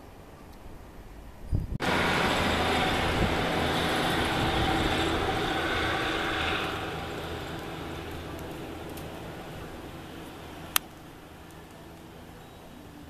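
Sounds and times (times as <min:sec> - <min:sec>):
passenger train passing: 0:01.8 - 0:13.0.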